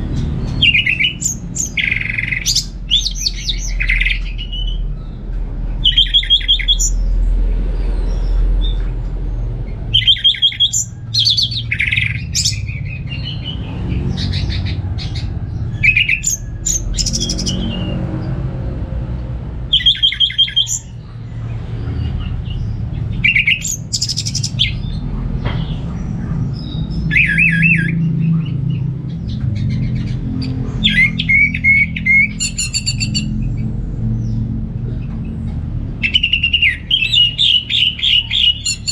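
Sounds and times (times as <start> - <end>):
bird singing trilled notes: 0.0 - 18.6, 19.6 - 38.9.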